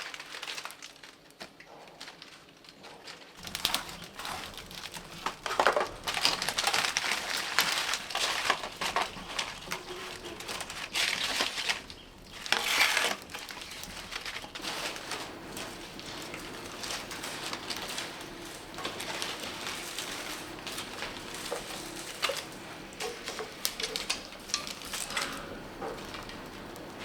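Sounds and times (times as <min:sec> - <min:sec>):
dry plants rustling and crackling: 0:00.0 - 0:27.0.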